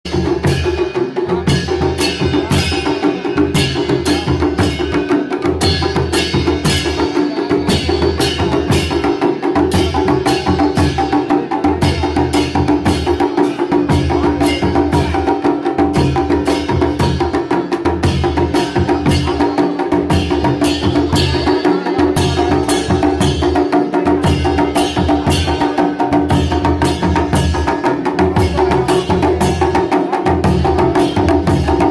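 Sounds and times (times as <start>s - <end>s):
steady drum beat: 0.1s - 31.9s.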